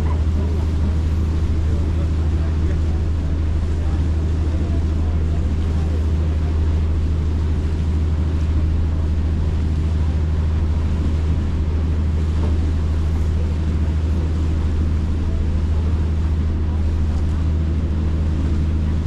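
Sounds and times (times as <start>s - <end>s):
boat engines humming: 0.0s - 19.0s.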